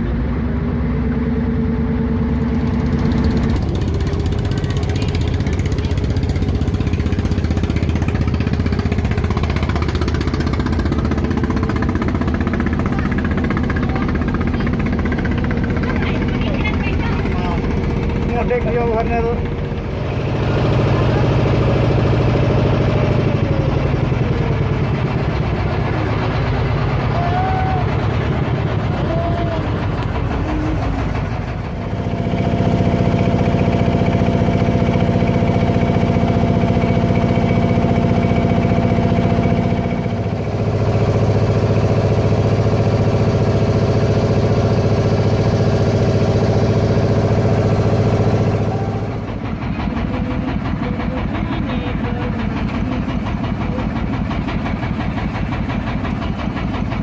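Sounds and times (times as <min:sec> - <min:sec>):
boat engine hum: 0:00.0 - 0:57.0.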